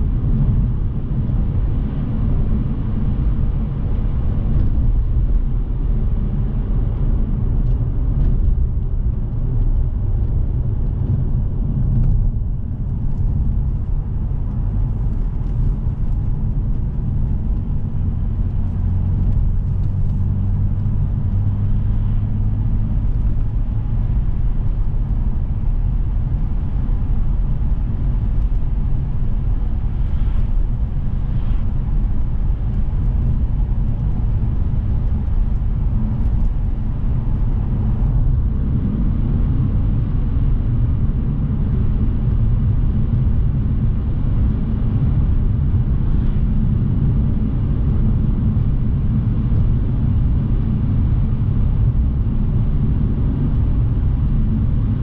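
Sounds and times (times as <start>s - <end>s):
car engine hum: 0.0s - 55.0s.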